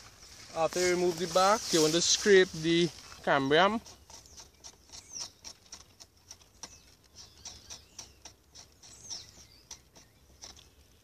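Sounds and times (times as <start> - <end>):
knife scraping bark: 1.2 - 10.9.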